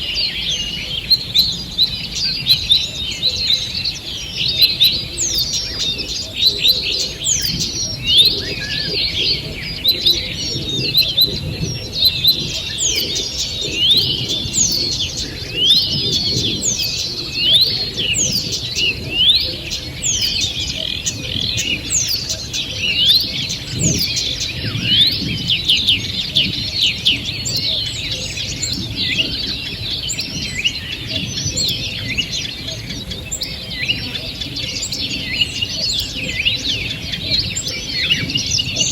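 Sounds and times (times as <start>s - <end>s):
chorus of songbirds singing: 0.0s - 38.9s.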